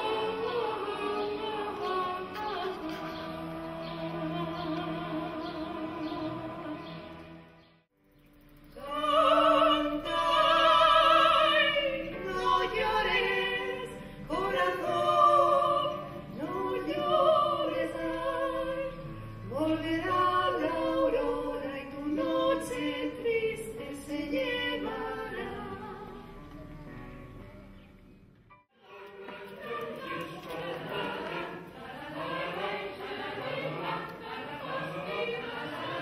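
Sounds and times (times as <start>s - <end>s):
women singing a duet: 0.0s - 7.0s, 8.8s - 26.3s, 28.8s - 36.0s.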